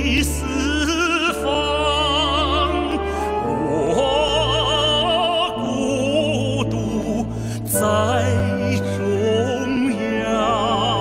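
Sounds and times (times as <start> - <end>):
man singing a slow ballad: 0.0 - 11.0
orchestra: 0.0 - 11.0.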